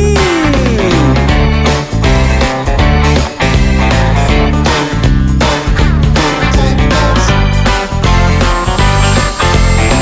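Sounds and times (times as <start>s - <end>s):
background music with guitar: 0.0s - 10.0s.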